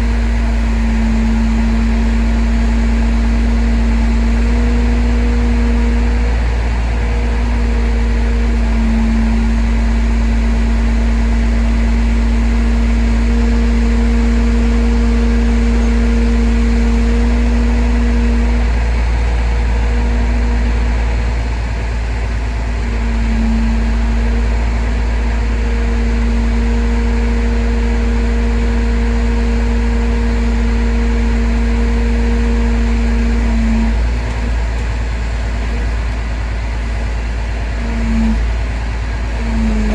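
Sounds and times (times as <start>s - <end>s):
steady whine: 0.0s - 39.9s
truck engine deep rumble: 0.0s - 39.9s.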